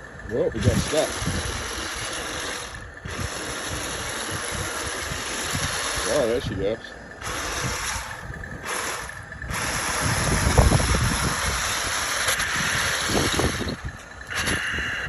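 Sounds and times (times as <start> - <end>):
toy tank tracks grinding: 0.0 - 15.0.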